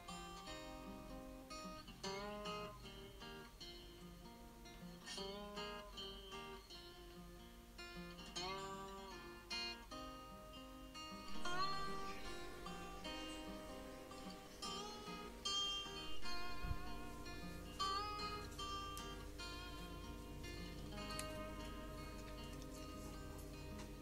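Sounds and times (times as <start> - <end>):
acoustic guitar melody: 0.0 - 24.0.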